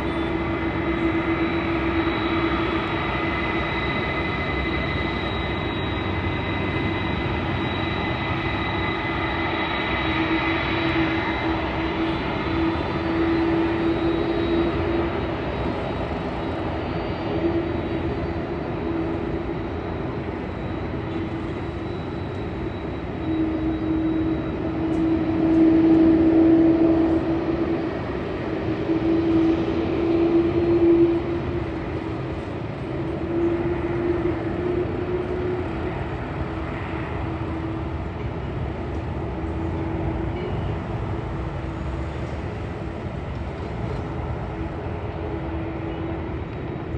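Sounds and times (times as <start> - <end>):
airplane engine roaring: 0.0 - 46.9.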